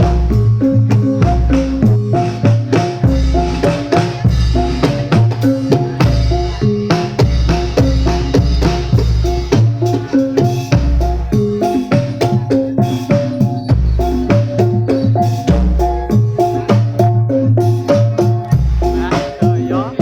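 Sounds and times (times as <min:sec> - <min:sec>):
deep drum beats: 0:00.0 - 0:20.0
quick percussive strikes: 0:00.0 - 0:20.0
struck metallophone melody: 0:00.0 - 0:20.0.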